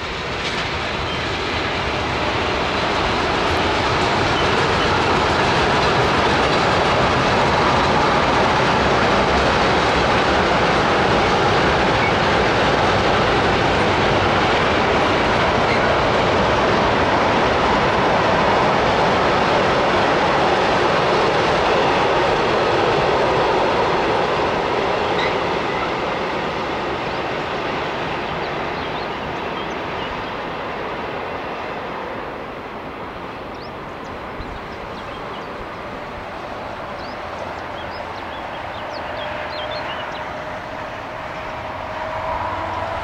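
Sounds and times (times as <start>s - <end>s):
freight train rolling by: 0.0s - 43.0s.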